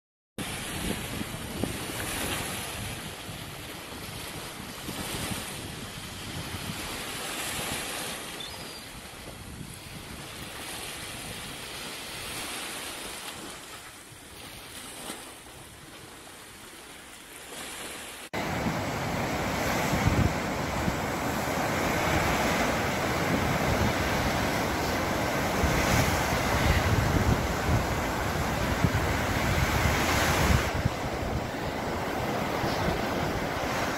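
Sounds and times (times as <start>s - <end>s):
wind noise on microphone: 0.4s - 12.8s, 18.4s - 33.9s
small waves on sandy shore: 0.4s - 33.9s.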